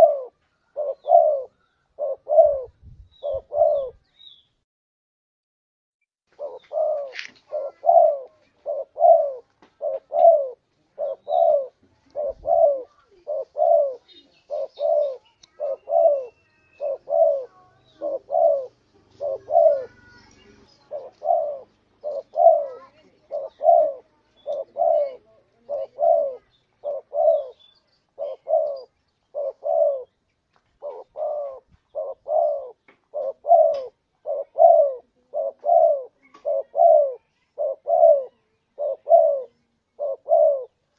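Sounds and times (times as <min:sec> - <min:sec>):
dove cooing: 0:00.0 - 0:04.0, 0:06.3 - 0:30.2, 0:30.8 - 0:40.9.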